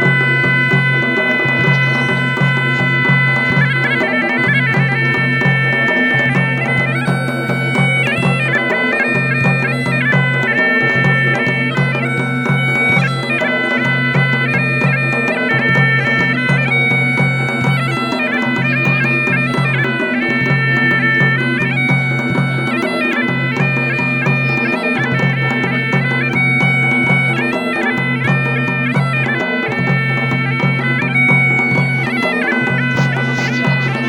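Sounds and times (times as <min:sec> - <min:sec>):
bagpipe melody with drone: 0:00.0 - 0:34.0
drum beat: 0:00.0 - 0:34.0.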